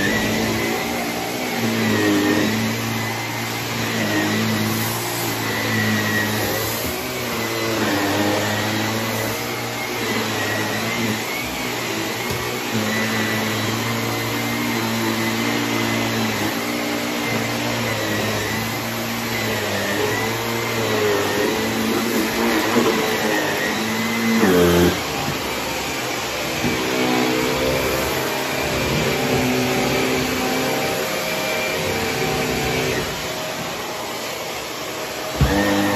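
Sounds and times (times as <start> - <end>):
vacuum cleaner running: 0.0 - 35.9.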